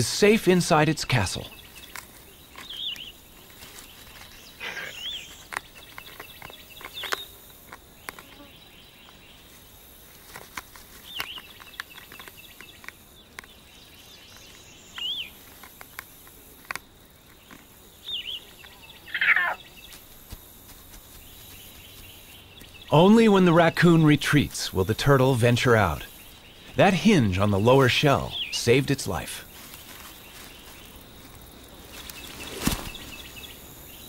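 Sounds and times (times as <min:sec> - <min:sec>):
bird chirping: 0:00.0 - 0:09.6, 0:11.0 - 0:16.1, 0:17.1 - 0:20.1, 0:21.1 - 0:34.0.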